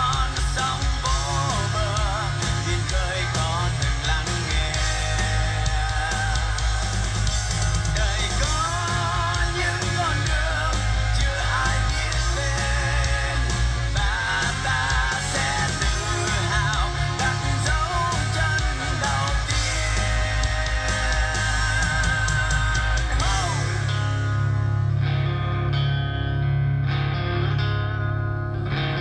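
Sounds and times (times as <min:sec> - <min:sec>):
guitar: 0:00.0 - 0:29.0
heavy steady bass: 0:00.0 - 0:29.0.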